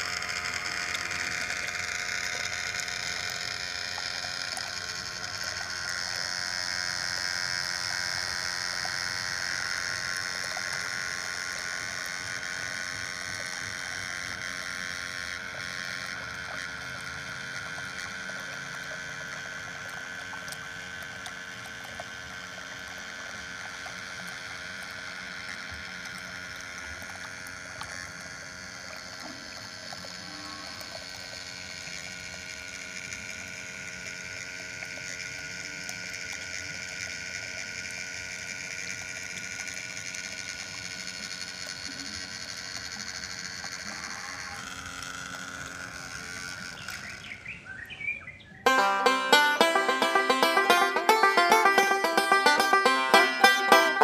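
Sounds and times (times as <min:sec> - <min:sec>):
small motor running: 0:00.0 - 0:47.7, 0:48.7 - 0:54.0.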